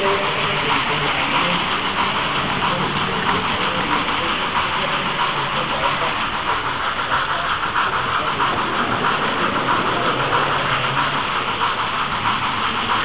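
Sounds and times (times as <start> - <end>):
model train wheels rolling on rail: 0.0 - 13.0.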